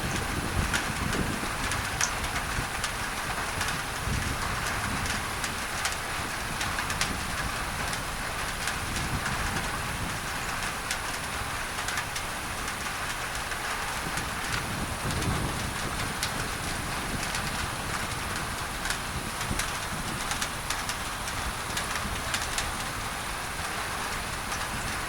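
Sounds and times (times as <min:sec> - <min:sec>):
rain drumming on a tin roof: 0:00.0 - 0:25.0.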